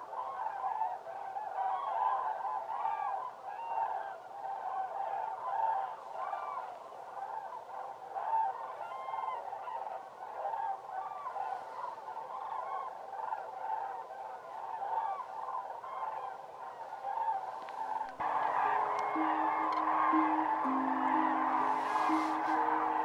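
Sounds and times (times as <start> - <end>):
flock of cranes bugling: 0.0 - 23.0.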